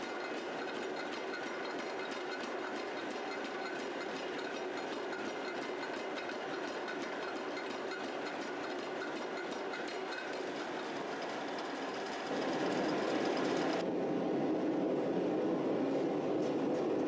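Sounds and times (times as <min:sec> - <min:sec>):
machinery running with light clatter: 0:00.0 - 0:17.0.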